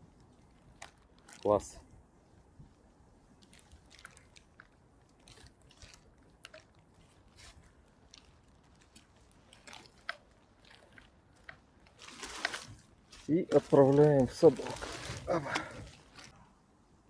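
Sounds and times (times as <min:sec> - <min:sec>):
small clicks and rustles: 0:00.1 - 0:02.8, 0:03.4 - 0:16.4.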